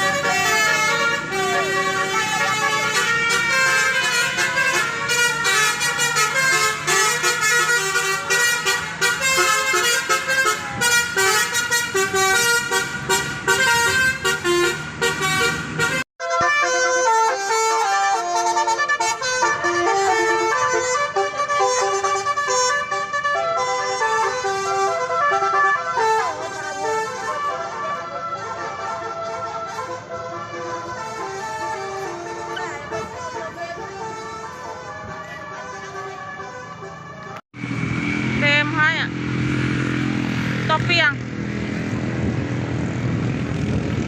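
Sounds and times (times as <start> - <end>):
bus horn playing a melody: 0.0 - 37.4.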